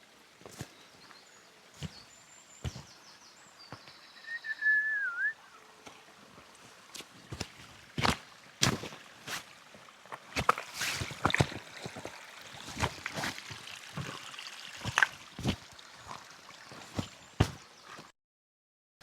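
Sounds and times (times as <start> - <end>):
footsteps on wet ground: 0.0 - 4.0, 5.8 - 18.1.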